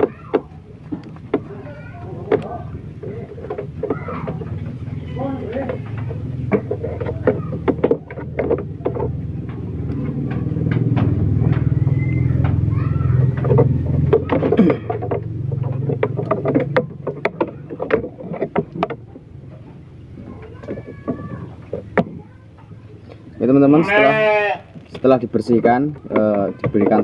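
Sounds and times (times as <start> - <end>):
clicks and rustles of handling: 0.0 - 23.5, 24.6 - 27.0
low engine-like rumble: 0.1 - 23.5.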